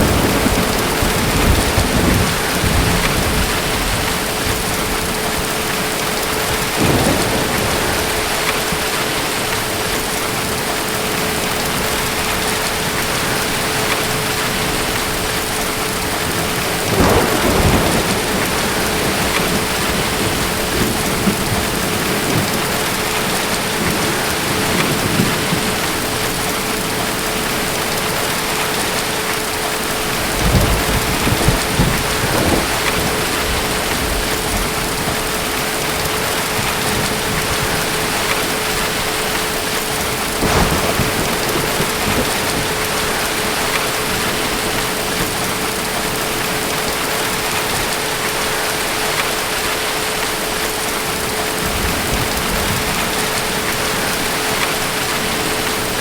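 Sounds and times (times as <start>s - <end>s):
distant thunder rumbling: 0.0s - 49.5s
steady rain: 0.0s - 56.0s.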